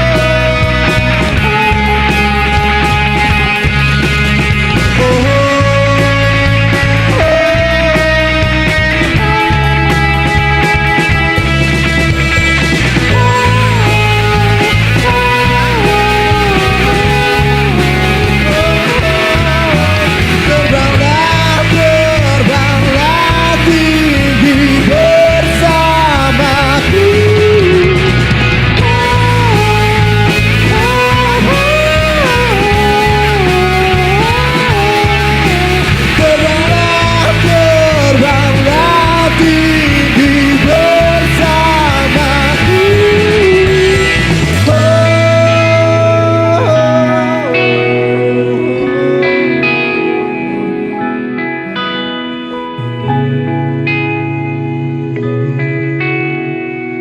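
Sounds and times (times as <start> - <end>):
rock band playing loud: 0.0 - 57.0
sliding lead melody: 0.0 - 57.0.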